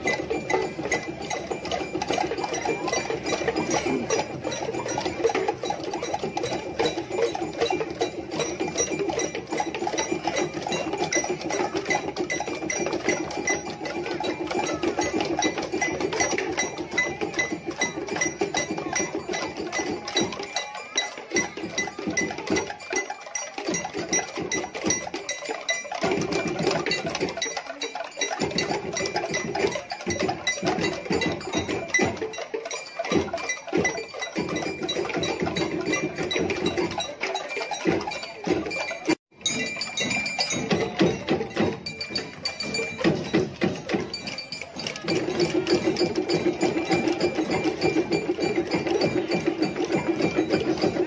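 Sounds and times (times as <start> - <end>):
cymbals clinking: 0.0 - 51.0
wooden bells clattering: 0.0 - 51.0.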